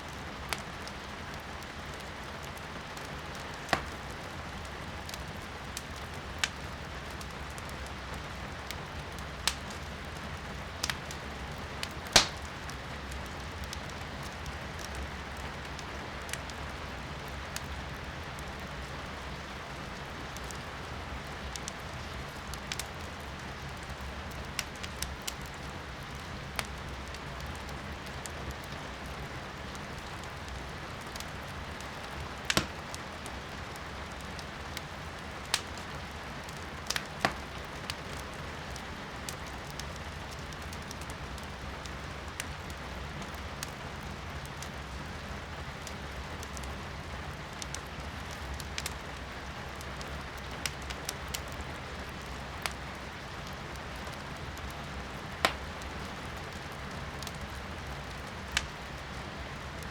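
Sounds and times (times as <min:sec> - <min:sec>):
firewood crackling and popping: 0:00.1 - 0:59.9.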